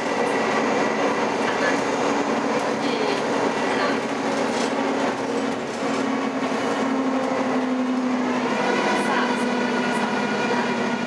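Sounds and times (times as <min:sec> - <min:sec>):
bus drivetrain hum: 0:00.0 - 0:11.0
road noise rumbling: 0:00.0 - 0:11.0.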